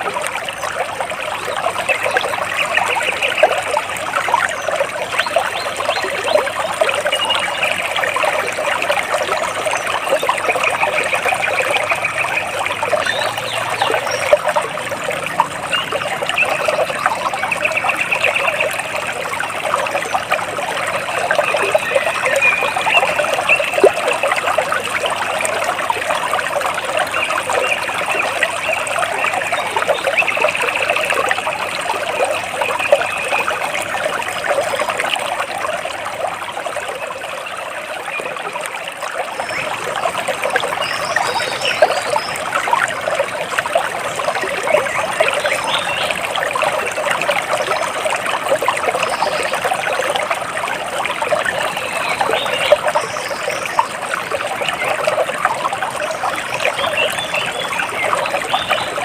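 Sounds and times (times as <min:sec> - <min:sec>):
water splashing and trickling: 0:00.0 - 0:59.0.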